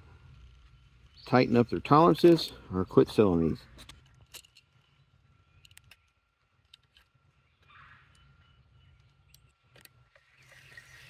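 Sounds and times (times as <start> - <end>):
faint clicks and handling noise: 0.2 - 10.6.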